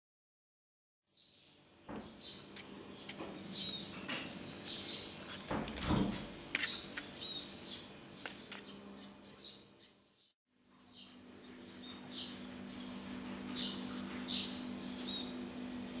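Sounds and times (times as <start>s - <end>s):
small bird chirping: 1.1s - 5.3s, 6.4s - 16.0s.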